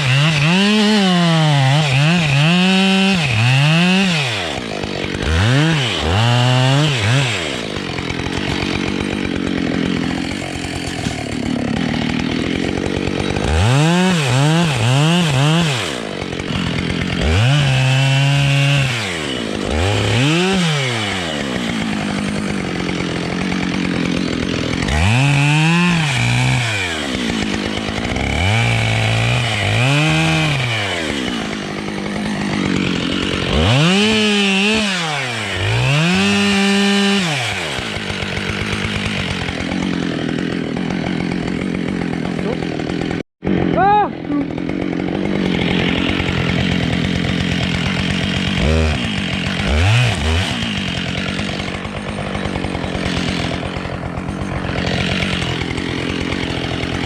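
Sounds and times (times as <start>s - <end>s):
chainsaw cutting wood: 0.0s - 57.0s
chainsaw revving: 0.0s - 57.0s.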